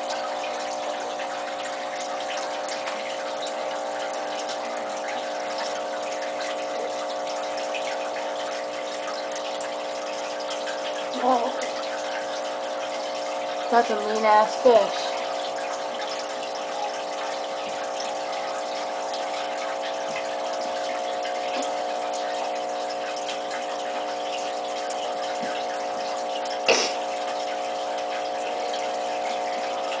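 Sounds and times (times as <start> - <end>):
filter pump humming: 0.0 - 30.0
water trickling: 0.0 - 30.0.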